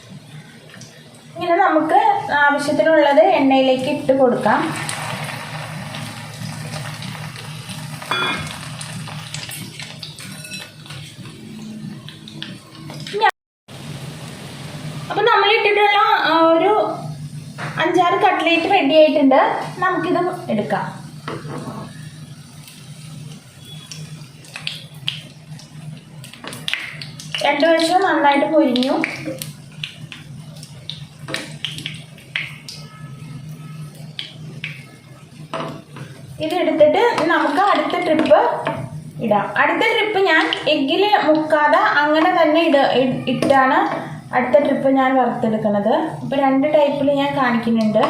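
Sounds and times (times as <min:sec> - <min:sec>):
cutlets sizzling in hot oil: 0:03.7 - 0:11.3, 0:12.4 - 0:45.2.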